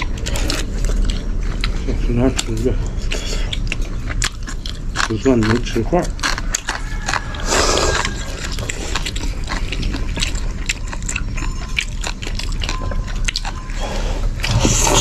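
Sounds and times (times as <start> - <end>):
person chewing and biting: 0.0 - 15.0.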